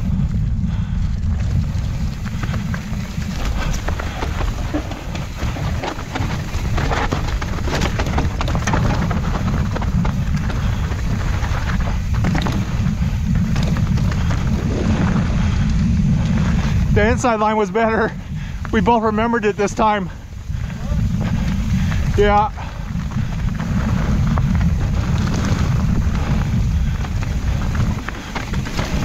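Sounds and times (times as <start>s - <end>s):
bike rattling and clicking: 0.0s - 29.0s
wind buffeting microphone: 0.0s - 29.0s
tyres crunching over dirt: 1.0s - 29.0s.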